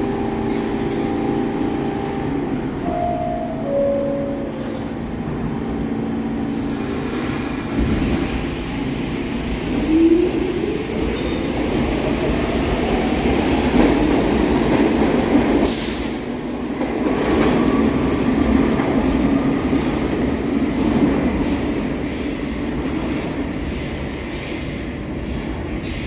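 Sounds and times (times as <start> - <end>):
subway train rumbling on rails: 0.0 - 26.0.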